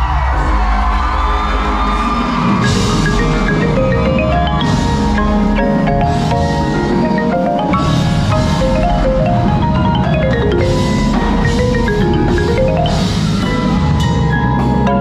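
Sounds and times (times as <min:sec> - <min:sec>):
drumline drums and percussion: 0:00.0 - 0:15.0
marimba fast runs: 0:01.8 - 0:15.0.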